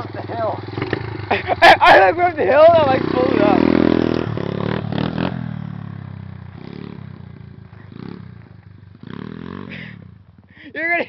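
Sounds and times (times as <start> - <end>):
pit bike engine revving: 0.0 - 10.8.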